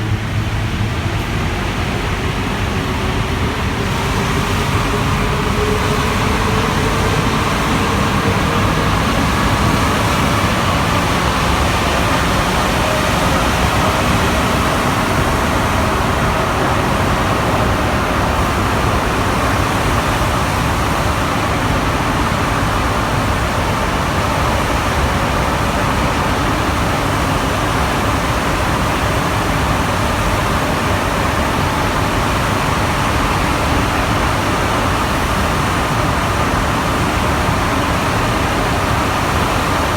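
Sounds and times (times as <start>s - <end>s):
metro train running inside car: 0.0s - 39.9s.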